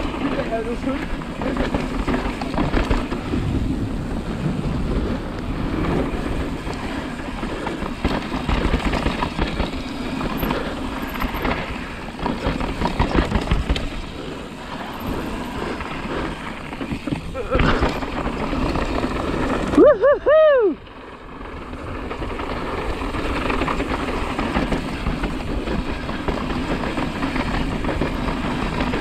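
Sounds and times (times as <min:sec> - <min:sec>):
bike rattling over bumps: 0:00.0 - 0:29.0.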